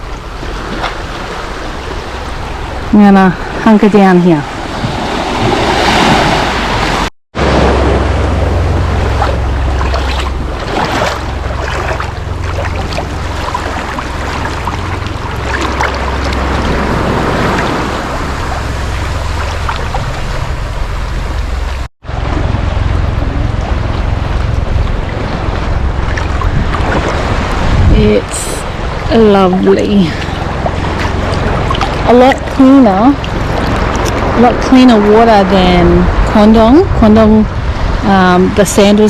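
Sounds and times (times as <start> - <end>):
sea waves washing in shallows: 0.0 - 39.0
wind buffeting microphone: 0.0 - 39.0.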